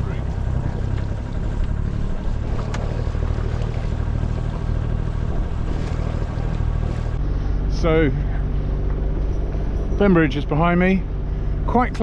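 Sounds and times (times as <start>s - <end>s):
water wash: 0.0s - 10.4s
diesel engine running: 0.0s - 12.0s.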